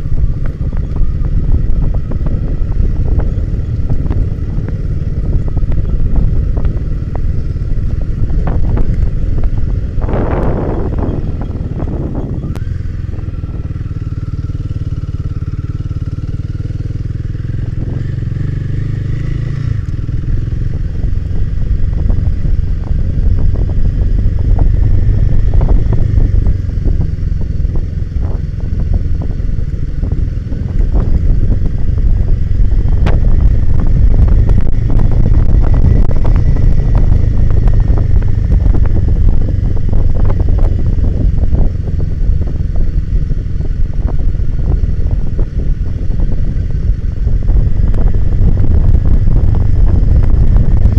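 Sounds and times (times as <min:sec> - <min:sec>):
off-road motorcycle engine: 0:00.0 - 0:50.9.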